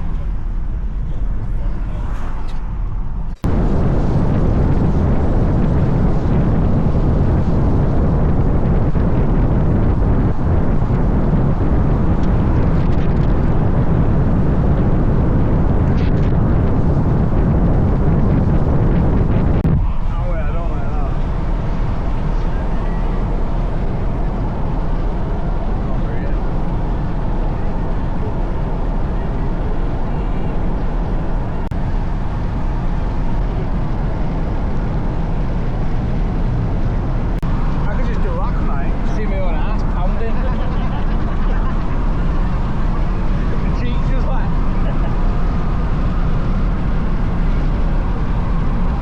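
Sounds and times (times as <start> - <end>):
van wind and road noise: 0.0 - 49.0.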